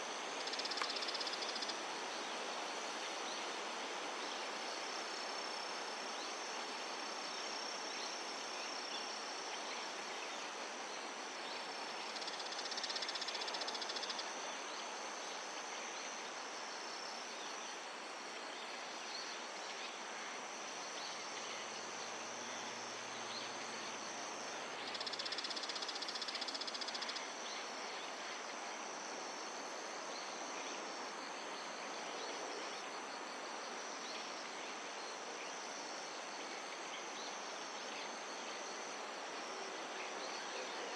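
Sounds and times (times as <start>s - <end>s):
crickets trilling: 0.0s - 3.6s, 4.2s - 40.9s
rapidly pulsed insect buzz: 0.0s - 40.9s.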